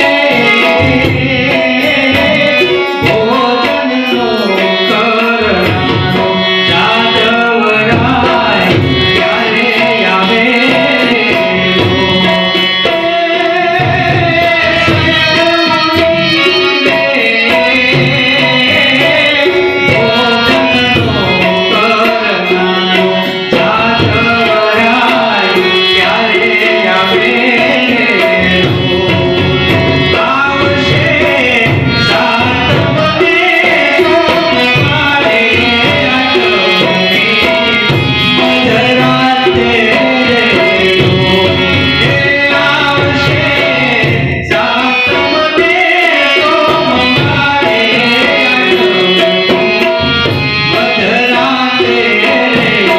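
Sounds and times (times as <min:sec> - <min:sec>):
harmonium: 0:00.0 - 0:52.9
man singing into a microphone: 0:00.0 - 0:52.9
tabla drumming: 0:00.0 - 0:52.9.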